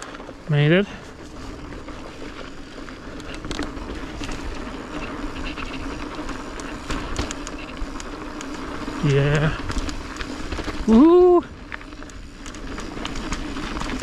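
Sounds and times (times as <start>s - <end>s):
bike rattling over rock: 0.0s - 14.0s
mountain bike rolling hum: 0.0s - 14.0s.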